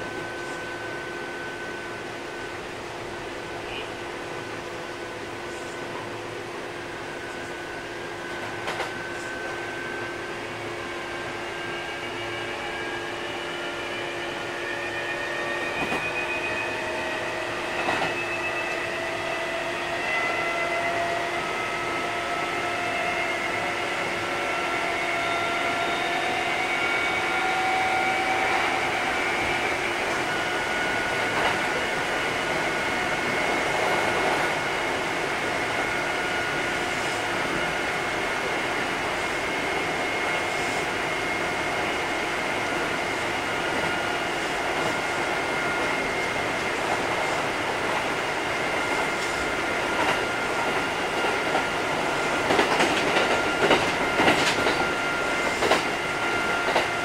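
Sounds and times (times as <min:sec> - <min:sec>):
electric train motor whine: 0:00.0 - 0:57.0.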